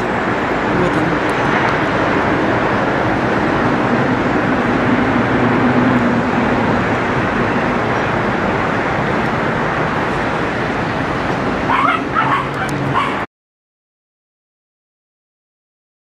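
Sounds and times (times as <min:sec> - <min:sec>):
city traffic roar: 0:00.0 - 0:13.3
low engine-like hum: 0:00.0 - 0:13.3.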